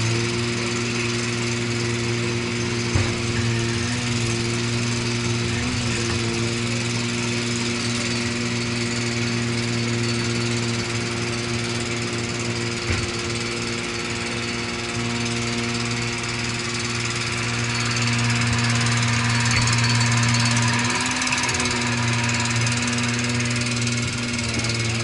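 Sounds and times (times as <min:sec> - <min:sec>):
machine engine humming: 0:00.0 - 0:25.0.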